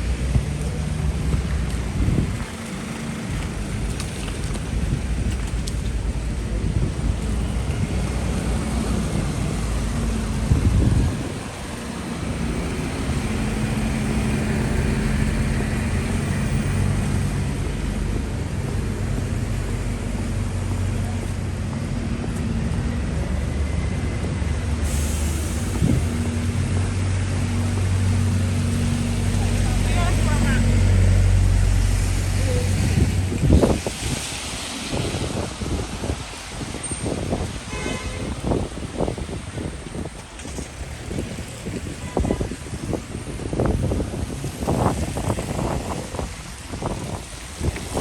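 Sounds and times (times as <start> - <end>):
road traffic engines humming: 0.0 - 48.0.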